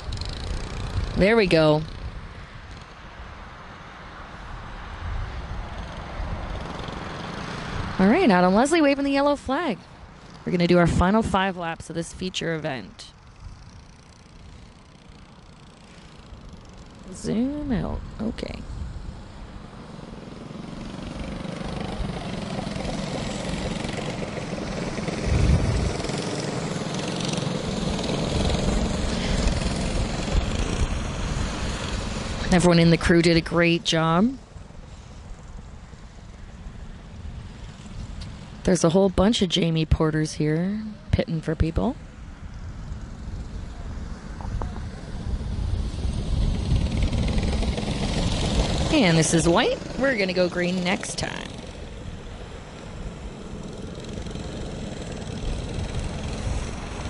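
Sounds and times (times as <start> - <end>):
go-kart engines running: 0.0 - 57.0
low engine rumble: 0.0 - 57.0.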